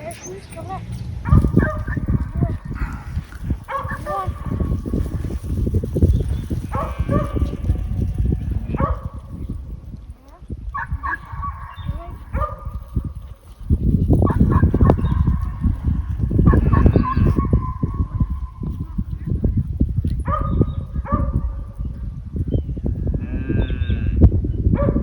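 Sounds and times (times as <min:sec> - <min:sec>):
heavy low rumble: 0:00.0 - 0:24.1.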